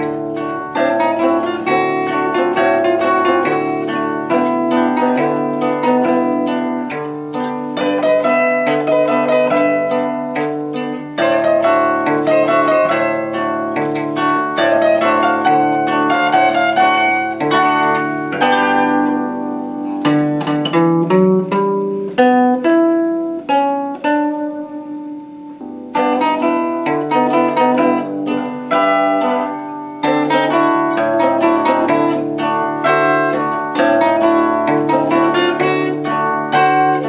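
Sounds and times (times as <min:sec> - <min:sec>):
zither playing: 0:00.0 - 0:37.0.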